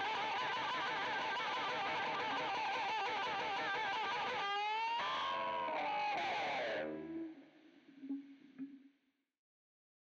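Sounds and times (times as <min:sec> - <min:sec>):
electric guitar with vibrato: 0:00.0 - 0:08.6.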